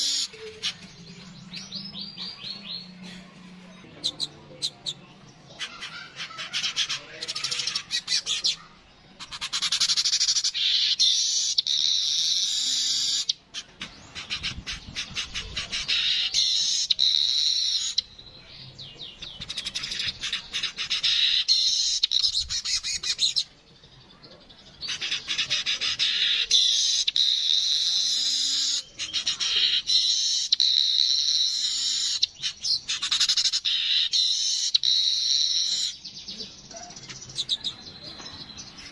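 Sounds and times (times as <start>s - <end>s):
weaver bird singing: 0.0s - 3.0s, 6.9s - 38.9s.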